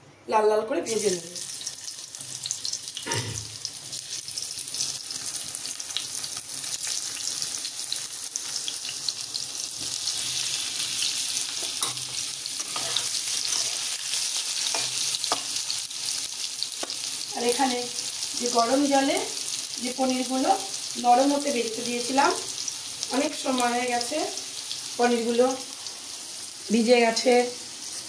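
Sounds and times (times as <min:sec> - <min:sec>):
potatoes sizzling in hot oil: 0:00.9 - 0:28.0.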